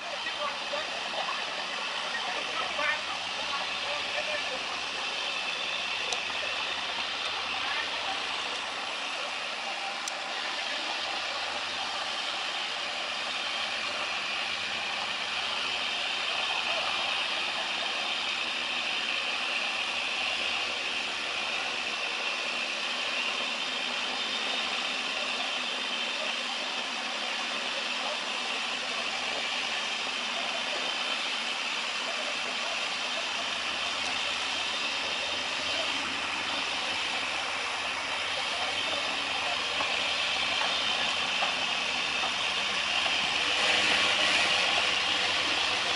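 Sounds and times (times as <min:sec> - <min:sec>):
steady machinery din: 0:00.0 - 0:45.9.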